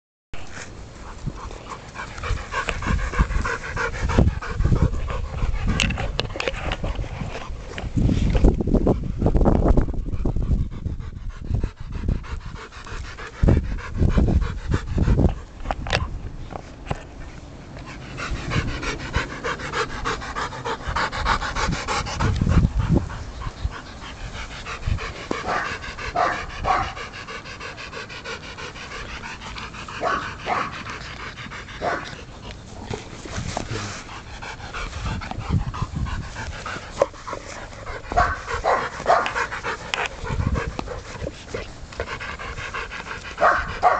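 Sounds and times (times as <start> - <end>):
puppy panting: 1.0 - 16.1, 16.9 - 43.9.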